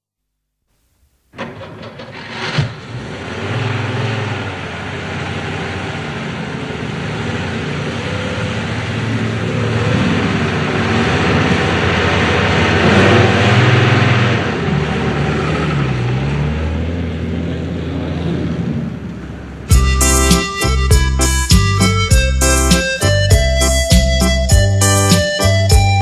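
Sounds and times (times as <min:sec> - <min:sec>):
car engine running: 0:01.4 - 0:16.1, 0:18.9 - 0:26.0.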